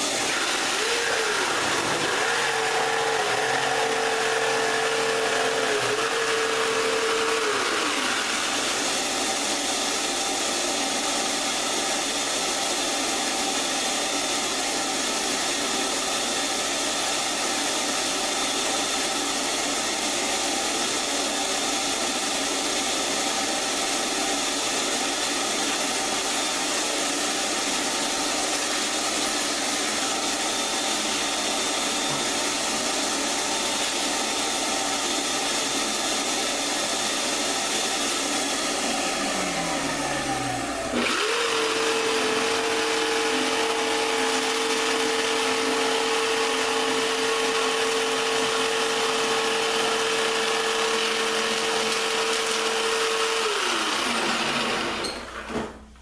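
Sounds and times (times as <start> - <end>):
electric router whining: 0.0 - 55.7.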